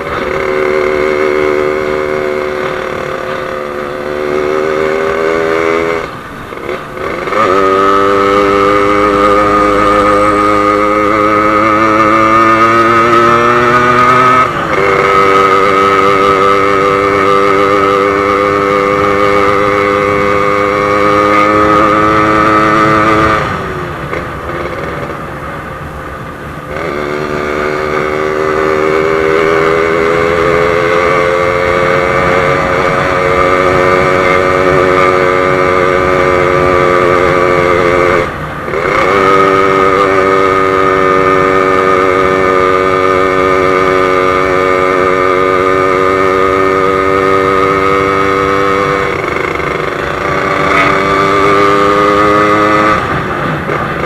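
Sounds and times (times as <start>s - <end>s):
two-stroke motorcycle engine: 0.0s - 54.0s.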